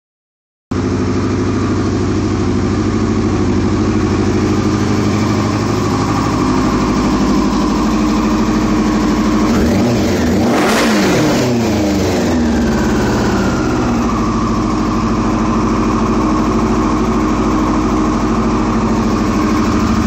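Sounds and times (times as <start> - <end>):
motorcycle engine idling: 0.7 - 20.0.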